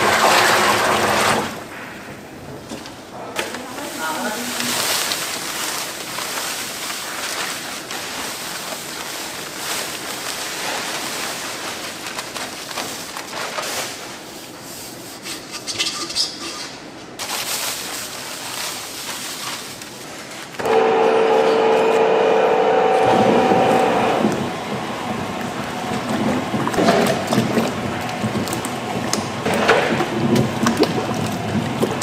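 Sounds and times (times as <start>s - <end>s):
paddle mixer churning mash: 0.0s - 1.8s, 3.5s - 15.6s, 16.8s - 32.0s.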